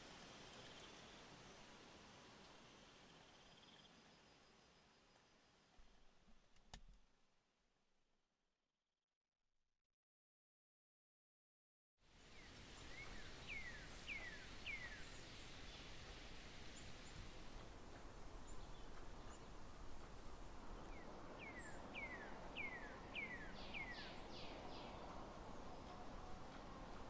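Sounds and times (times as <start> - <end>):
outdoor background noise: 0.0 - 7.6, 12.0 - 27.0.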